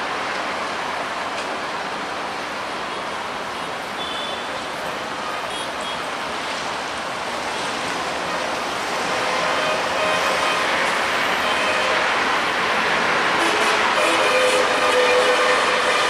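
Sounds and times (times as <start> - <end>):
train rolling along track: 0.0 - 16.0.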